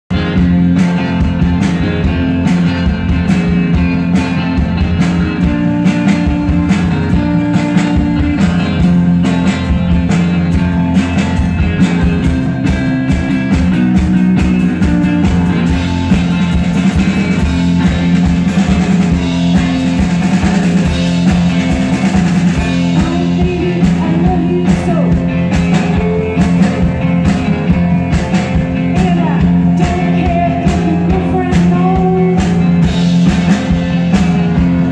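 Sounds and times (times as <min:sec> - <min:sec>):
drum kit steady beat: 0:00.1 - 0:34.9
electric guitar: 0:00.1 - 0:34.9.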